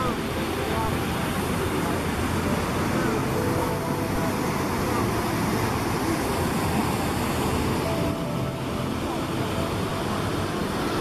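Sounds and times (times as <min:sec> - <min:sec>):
rapids rushing over rocks: 0:00.0 - 0:11.0.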